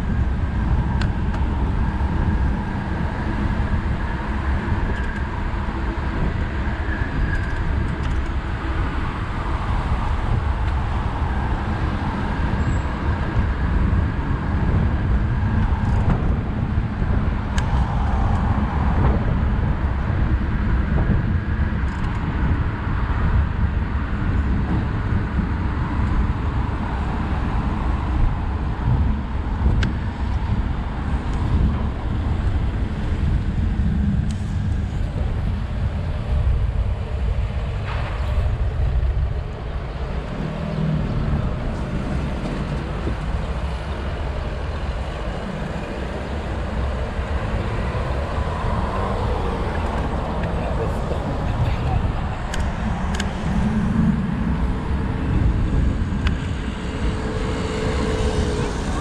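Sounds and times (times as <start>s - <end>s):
cars and buses passing: 0.0s - 59.0s.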